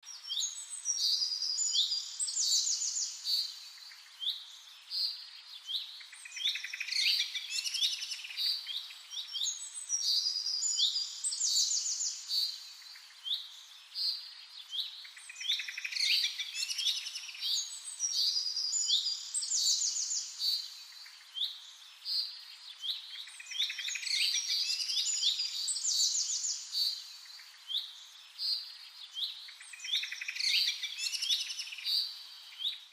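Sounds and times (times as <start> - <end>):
songbird chirping: 0.0 - 32.9.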